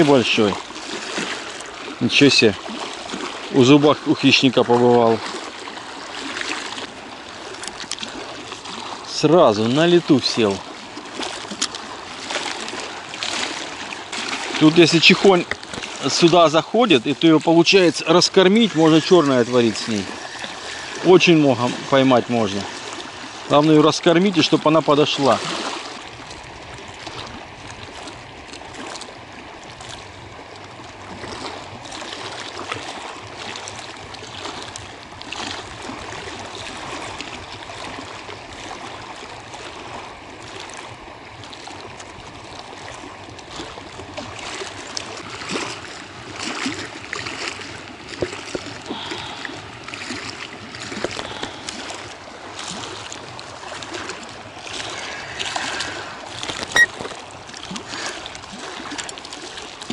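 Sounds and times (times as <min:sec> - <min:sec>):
small waves lapping at a bank: 0:00.0 - 0:59.9.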